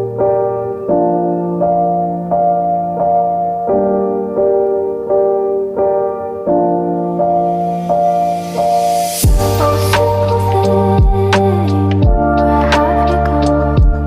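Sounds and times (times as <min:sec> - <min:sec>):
slow piano notes: 0:00.0 - 0:14.0.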